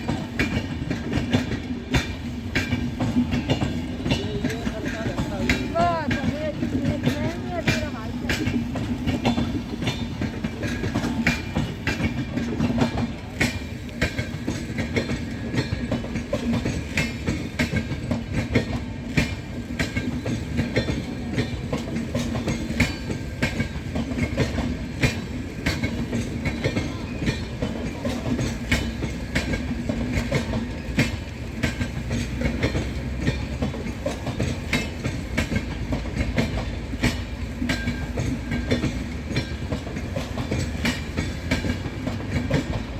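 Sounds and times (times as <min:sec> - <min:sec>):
train passing at speed: 0:00.0 - 0:42.9
wheels clacking over rail joints: 0:00.0 - 0:42.9.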